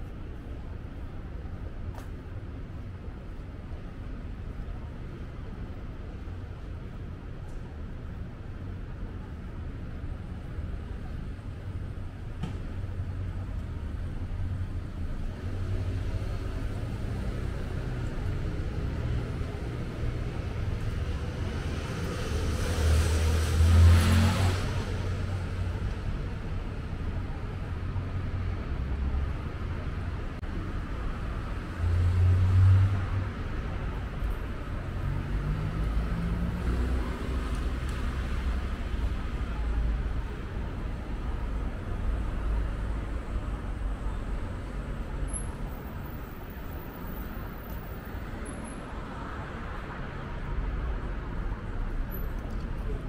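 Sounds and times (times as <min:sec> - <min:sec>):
traffic rumble: 0:00.0 - 0:53.0.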